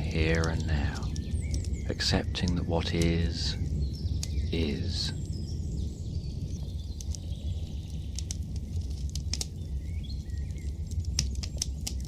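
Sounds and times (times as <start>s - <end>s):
faint bird chirps: 0.0s - 12.0s
light ticks and patter: 0.0s - 12.0s.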